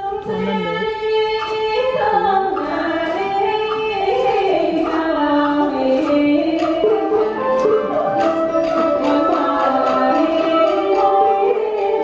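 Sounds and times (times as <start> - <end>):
woman singing: 0.0 - 7.8, 8.8 - 12.0
instrumental accompaniment: 0.0 - 12.0.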